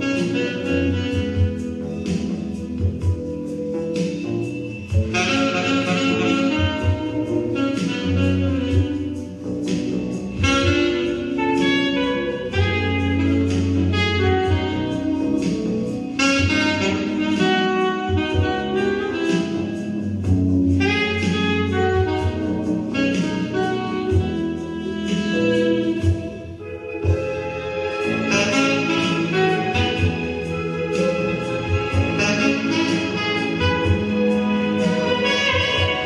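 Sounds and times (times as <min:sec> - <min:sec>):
jazz ensemble with wind lead: 0:00.0 - 0:36.0.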